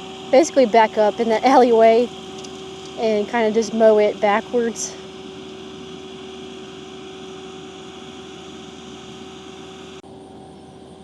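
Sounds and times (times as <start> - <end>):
rotary cutter mowing grass: 0.0 - 11.0.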